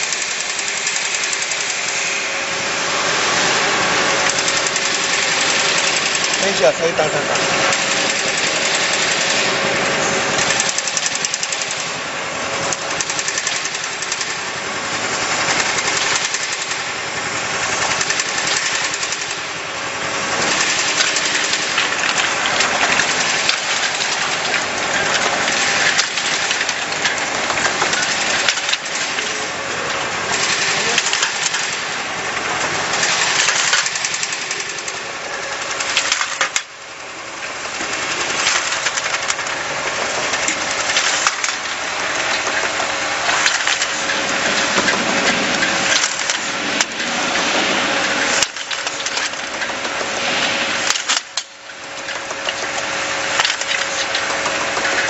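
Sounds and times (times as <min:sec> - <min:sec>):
machine mechanical clatter: 0:00.0 - 0:55.0.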